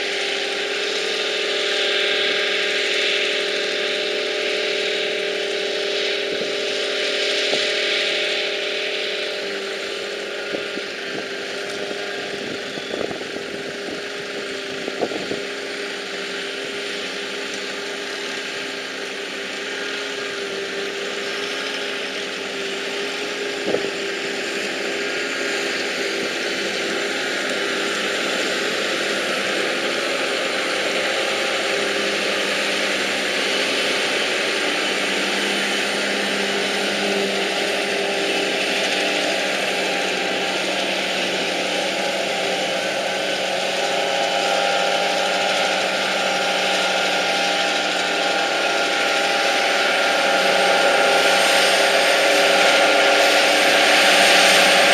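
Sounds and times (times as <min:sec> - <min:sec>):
machinery engines running: 0:00.0 - 0:54.9.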